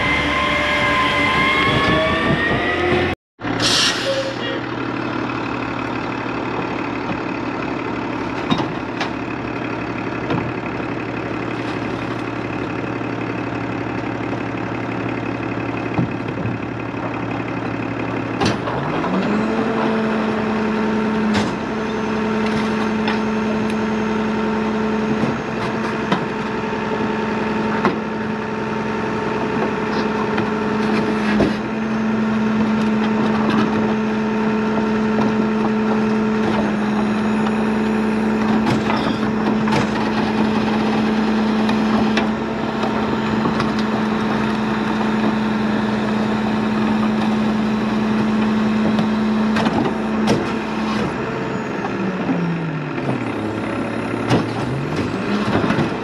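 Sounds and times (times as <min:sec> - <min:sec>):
garbage truck passing: 0:00.0 - 0:56.0
garbage truck engine idling: 0:03.4 - 0:56.0.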